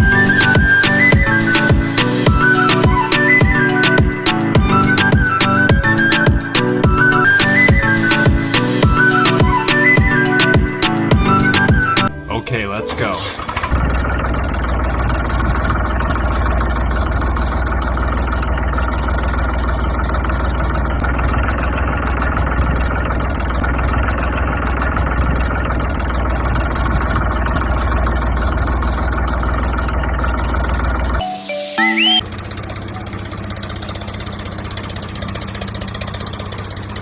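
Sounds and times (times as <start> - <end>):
engine idling: 0.0 - 12.2, 12.8 - 31.3, 32.1 - 37.0.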